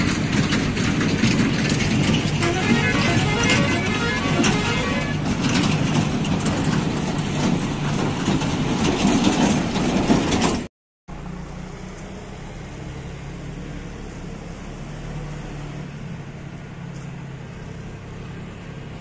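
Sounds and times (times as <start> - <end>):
tractor engines running: 0.0 - 19.0.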